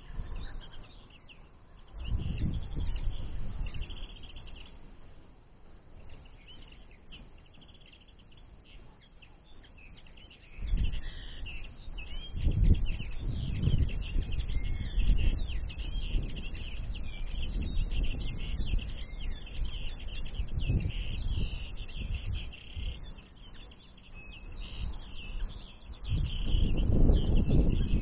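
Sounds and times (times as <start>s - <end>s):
songbirds twittering: 0.0s - 28.0s.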